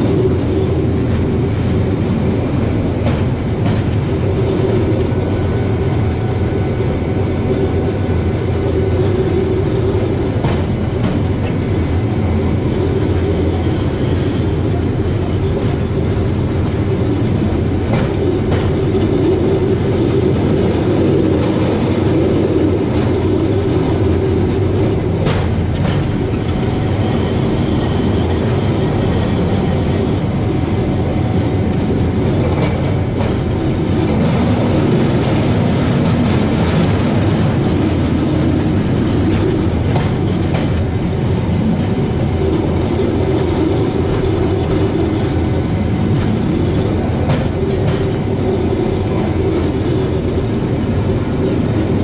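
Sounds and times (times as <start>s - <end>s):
wheels clicking over rail joints: 0.0s - 6.0s, 9.8s - 28.6s, 31.6s - 45.2s, 46.0s - 51.9s
steel wheels rumbling on rails: 0.0s - 52.0s.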